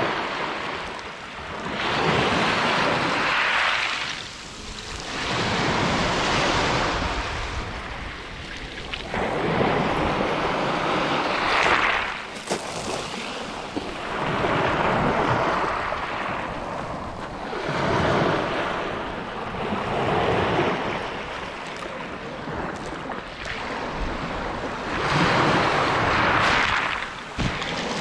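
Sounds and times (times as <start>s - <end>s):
waves breaking on pebble beach: 0.0s - 28.0s.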